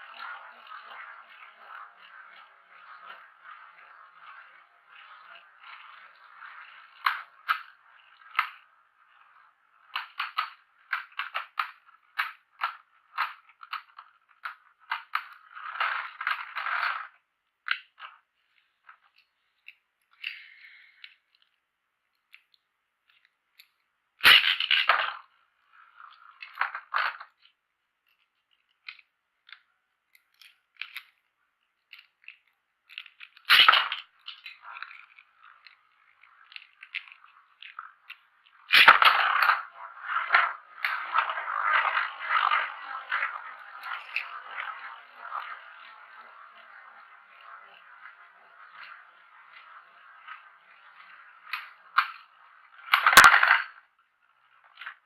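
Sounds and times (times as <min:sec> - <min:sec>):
spinning top clattering: 0:00.0 - 0:55.0.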